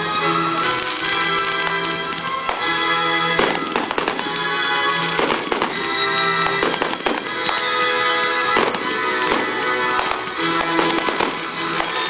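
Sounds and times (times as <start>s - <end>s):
fireworks bursting with sharp bangs: 0.0s - 12.0s
music with sustained tones: 0.0s - 12.0s.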